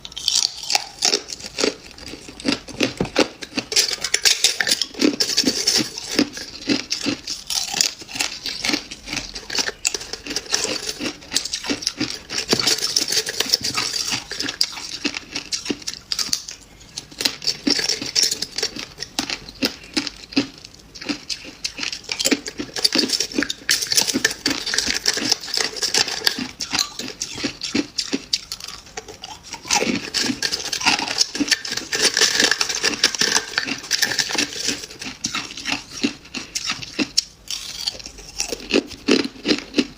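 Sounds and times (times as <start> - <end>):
frost being crunched and chewed: 0.0 - 39.9.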